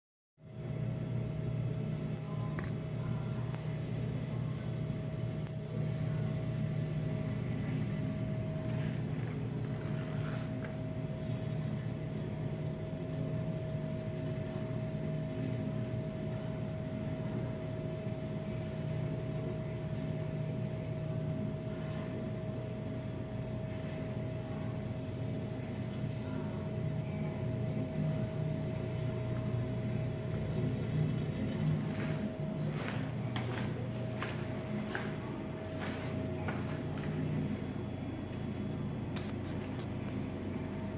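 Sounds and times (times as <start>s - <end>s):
low mechanical hum: 0.4s - 40.9s.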